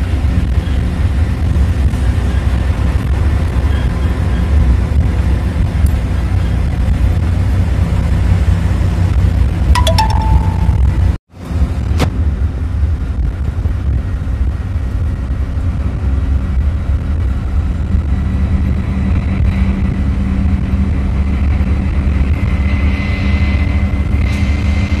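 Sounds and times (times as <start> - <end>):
bus engine and road rumble: 0.0 - 9.7, 11.4 - 25.0.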